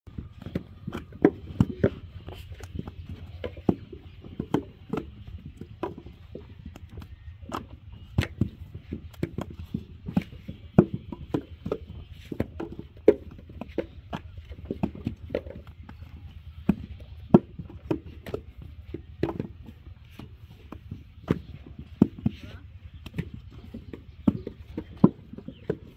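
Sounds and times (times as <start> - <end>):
knocks and dull thuds: 0.1 - 25.9.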